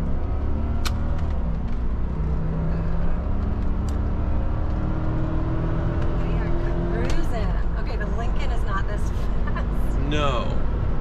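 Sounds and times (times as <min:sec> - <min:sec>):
car engine revving at full throttle: 0:00.0 - 0:11.0
road rumble: 0:00.0 - 0:11.0.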